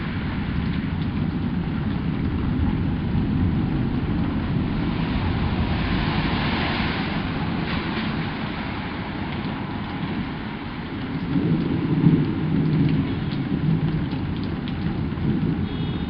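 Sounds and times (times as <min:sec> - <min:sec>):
rain hissing: 0:00.0 - 0:16.0
rolling thunder rumble: 0:00.0 - 0:16.0.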